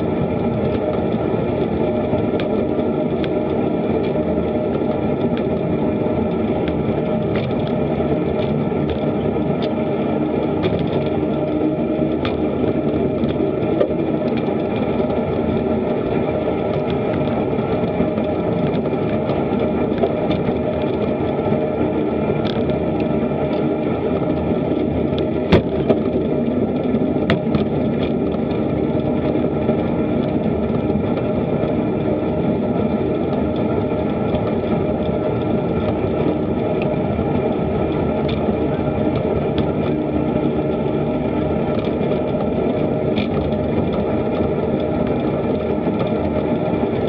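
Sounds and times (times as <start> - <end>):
distorted wind and road noise: 0.0 - 47.0.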